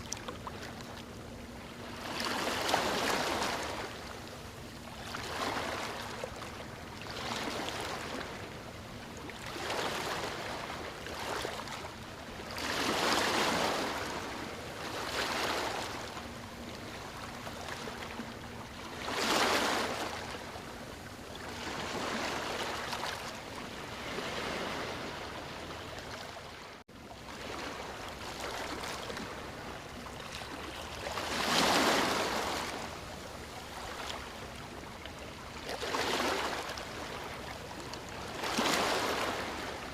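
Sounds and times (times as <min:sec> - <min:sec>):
waves breaking on beach: 0:00.0 - 0:00.8, 0:01.8 - 0:04.2, 0:04.9 - 0:06.4, 0:07.0 - 0:08.5, 0:09.4 - 0:18.1, 0:18.7 - 0:20.7, 0:21.4 - 0:39.9.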